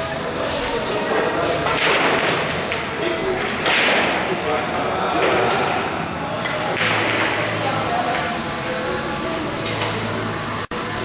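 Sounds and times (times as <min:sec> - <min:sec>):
pool hall room noise: 0:00.0 - 0:11.0.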